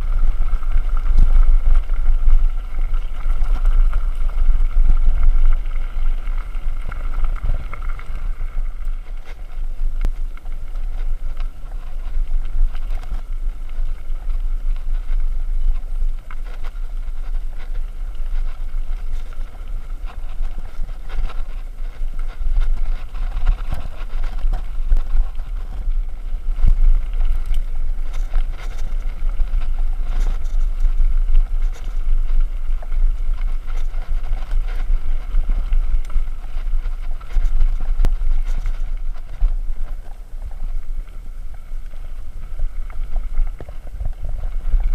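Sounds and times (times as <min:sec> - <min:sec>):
bike rattling: 0:00.0 - 0:44.9
wind rumble on microphone: 0:00.0 - 0:44.9.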